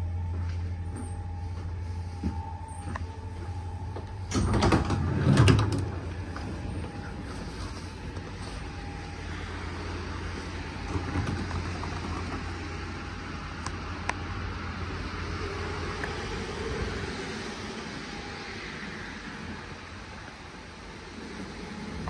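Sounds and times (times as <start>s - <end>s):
tram equipment humming: 0.0s - 22.0s.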